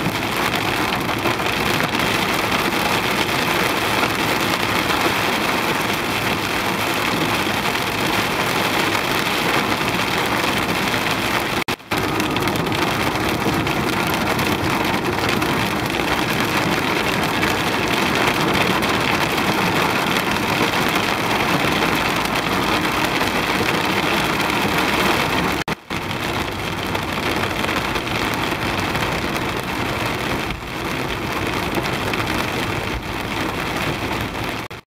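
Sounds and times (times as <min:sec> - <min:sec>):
heavy rain on car: 0:00.0 - 0:34.8.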